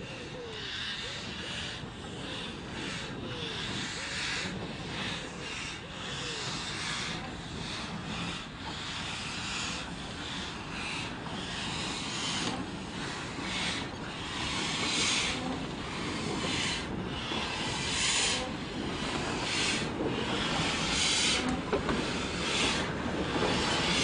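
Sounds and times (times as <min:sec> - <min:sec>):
steam locomotive puffing: 0:00.4 - 0:24.0.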